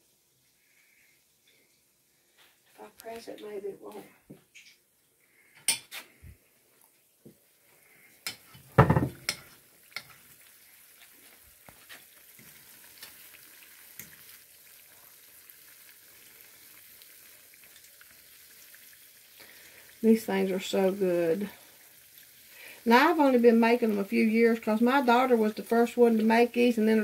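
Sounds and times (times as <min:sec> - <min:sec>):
cookies deep-frying in oil: 0:00.0 - 0:03.8, 0:04.4 - 0:27.0.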